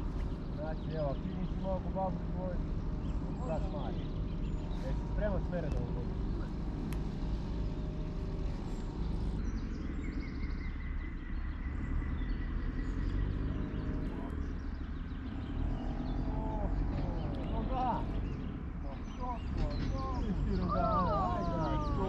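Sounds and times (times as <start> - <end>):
birds chirping: 0.0 - 22.0
heavy machinery rumbling: 0.0 - 22.0.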